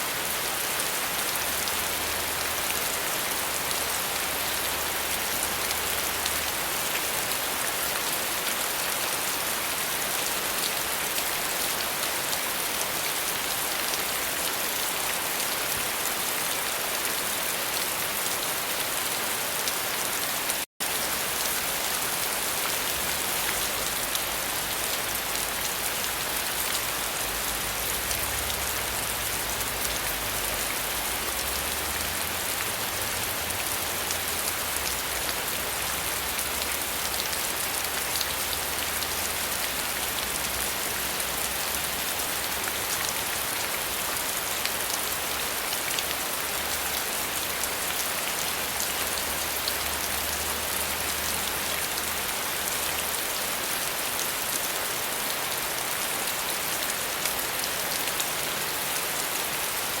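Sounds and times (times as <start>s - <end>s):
steady rain falling: 0.0s - 60.0s.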